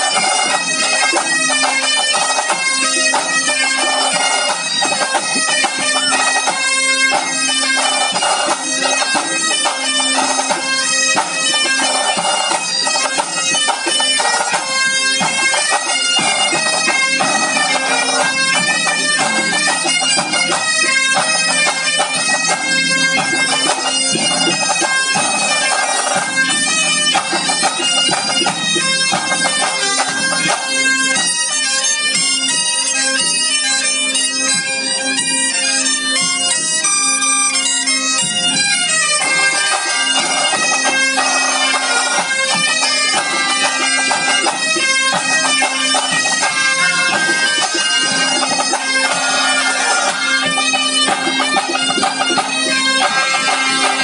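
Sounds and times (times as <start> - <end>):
bombardes: 0.0 - 33.2, 37.3 - 54.0
drums: 0.0 - 33.5, 37.7 - 54.0
bagpipes with drones: 0.0 - 54.0.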